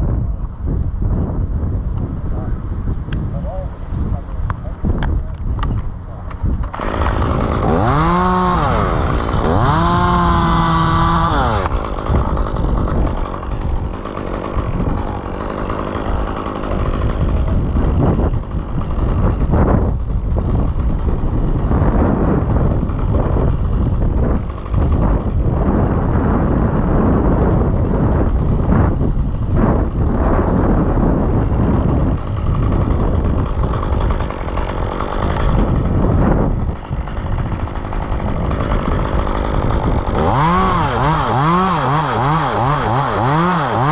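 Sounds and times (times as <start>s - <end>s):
chainsaw revving: 6.2s - 43.9s.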